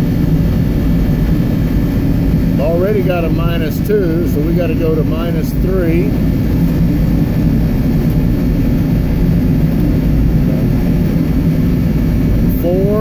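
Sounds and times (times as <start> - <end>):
industrial machinery drone: 0.0 - 13.0.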